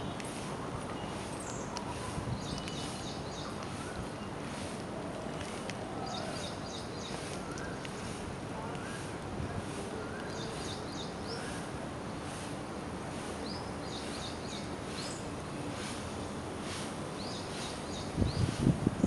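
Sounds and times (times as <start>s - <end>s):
birds chirping: 0.0s - 18.7s.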